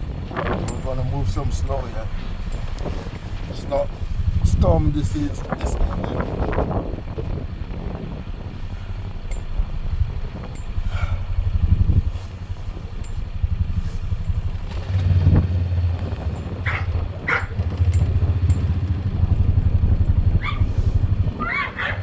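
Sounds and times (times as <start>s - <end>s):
atv engine rumbling: 0.0s - 22.0s.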